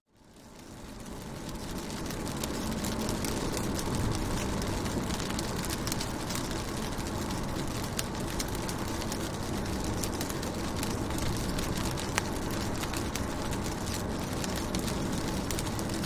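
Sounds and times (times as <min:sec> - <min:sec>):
rain on car windows: 0:00.2 - 0:16.0
steady low rumble: 0:00.3 - 0:16.0.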